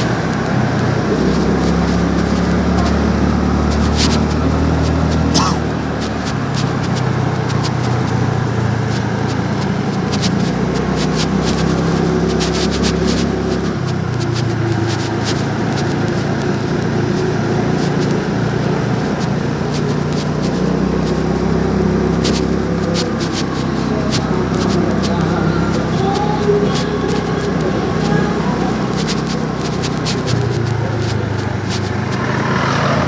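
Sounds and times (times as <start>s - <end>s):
scooter engine running: 0.0s - 33.0s
wind and road noise: 0.0s - 33.0s.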